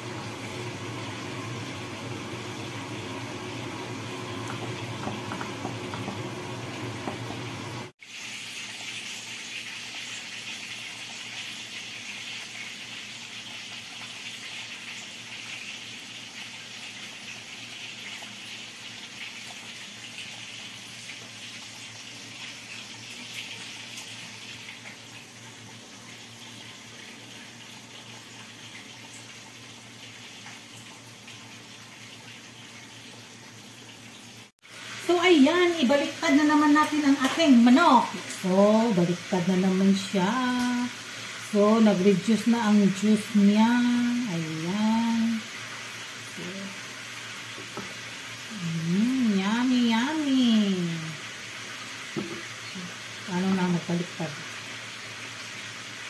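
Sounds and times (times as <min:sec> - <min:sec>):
sauce sizzling in a frying pan: 0:00.0 - 0:56.0.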